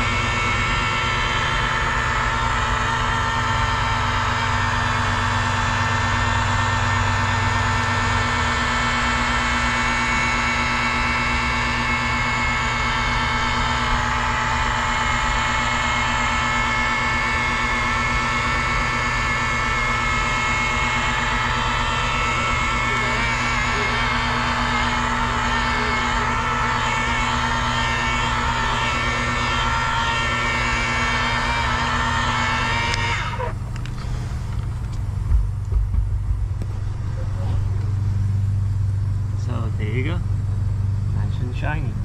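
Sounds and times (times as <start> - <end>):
rotary polisher whining: 0.0 - 42.0.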